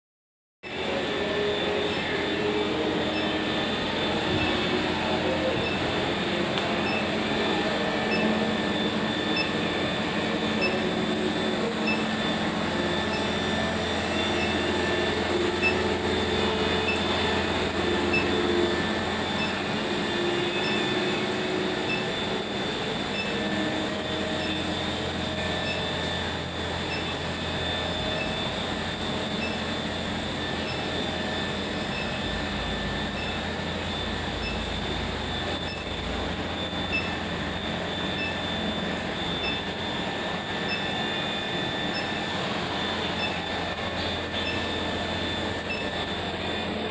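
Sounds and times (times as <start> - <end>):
furnace high-pitched whine: 0.6 - 46.9.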